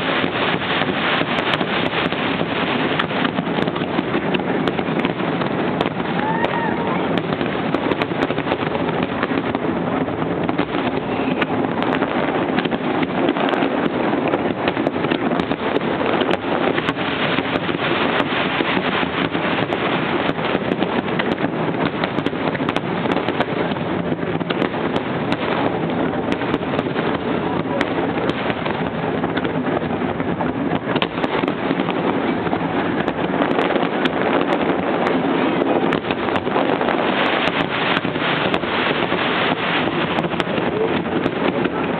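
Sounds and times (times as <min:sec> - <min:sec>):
fireworks barrage rumbling: 0:00.0 - 0:41.9
sharp firework cracks: 0:00.0 - 0:41.9.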